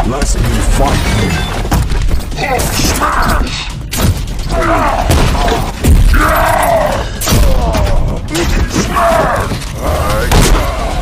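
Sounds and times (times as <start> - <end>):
background music: 0.0 - 11.0
heavy metallic crashes and thuds: 0.2 - 11.0.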